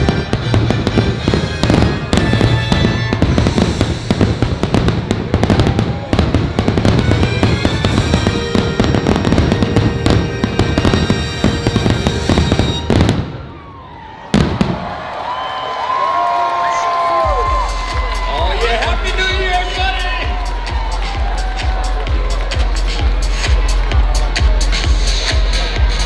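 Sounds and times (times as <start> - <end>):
show music: 0.0 - 13.3, 15.8 - 26.0
crowd cheering: 0.0 - 26.0
firework explosions: 0.0 - 26.0.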